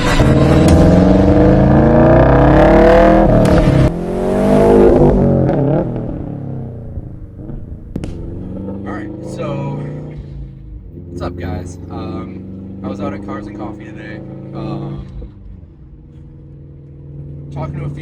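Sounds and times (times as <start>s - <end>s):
car exhaust accelerating: 0.0s - 18.0s.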